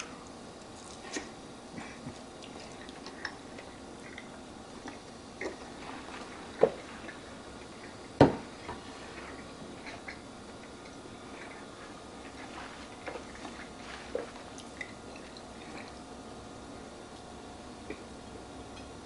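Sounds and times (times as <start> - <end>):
person chewing food: 0.0 - 16.1.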